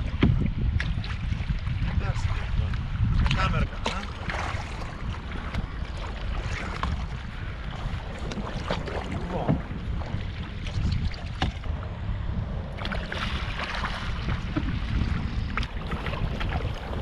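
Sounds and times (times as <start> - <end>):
kayak paddle splashing in water: 0.0 - 11.7, 12.7 - 17.0
wind rumble on microphone: 0.0 - 17.0.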